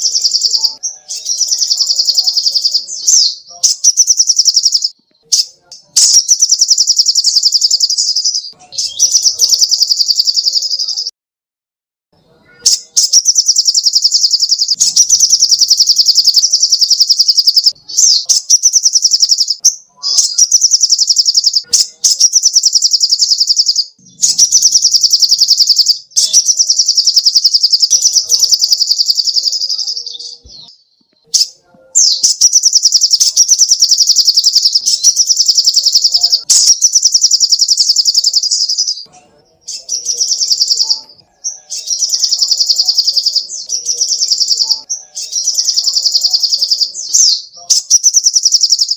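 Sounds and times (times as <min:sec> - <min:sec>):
bird singing rapid high trills: 0:00.0 - 0:11.1, 0:12.4 - 0:48.9.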